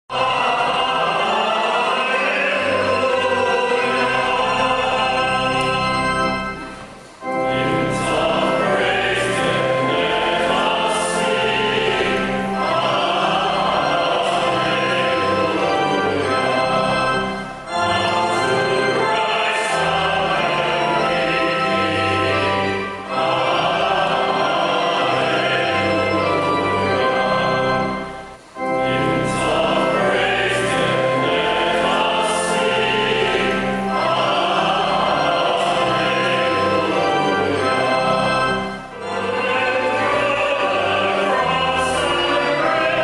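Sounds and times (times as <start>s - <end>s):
choir singing: 0.1s - 43.0s.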